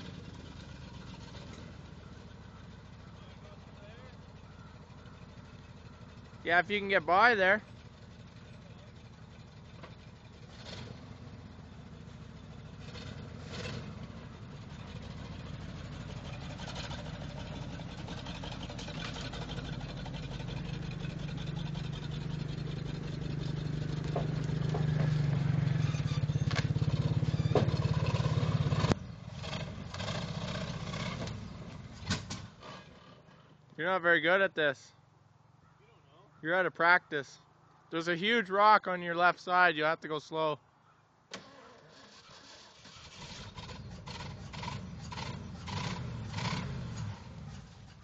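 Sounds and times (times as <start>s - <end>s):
engine running rough: 0.0s - 33.8s, 42.4s - 48.0s.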